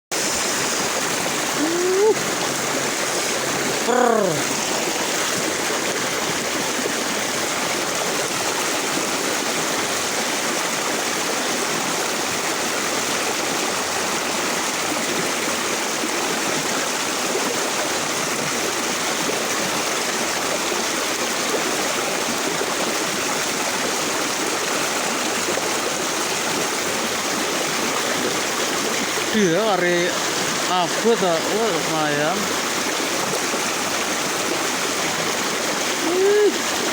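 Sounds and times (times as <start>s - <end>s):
river water rushing: 0.1s - 36.9s.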